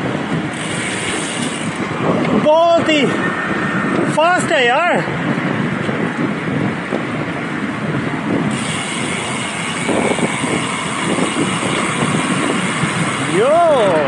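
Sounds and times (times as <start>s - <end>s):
bicycle tyre and road noise: 0.0s - 14.0s
wind rushing over microphone: 0.0s - 14.0s.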